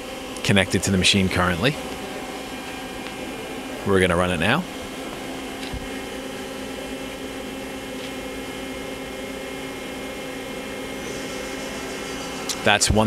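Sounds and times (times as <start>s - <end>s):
lathe machine humming: 0.0s - 13.0s.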